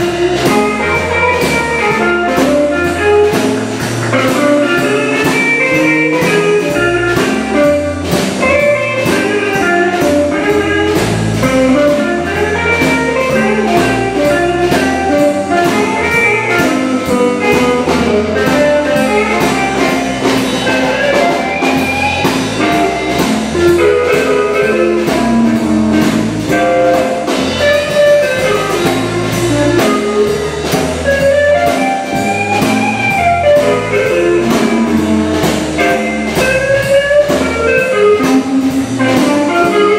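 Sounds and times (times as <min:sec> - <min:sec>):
live blues band: 0:00.0 - 0:39.9.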